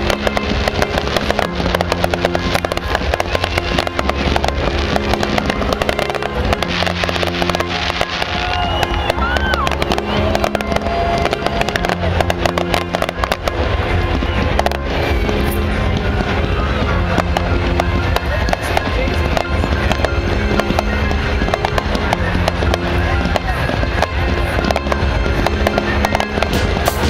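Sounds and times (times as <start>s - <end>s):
firework whistles: 0.0s - 27.0s
fireworks crackling and popping: 0.0s - 27.0s
music with bass line: 0.0s - 27.0s.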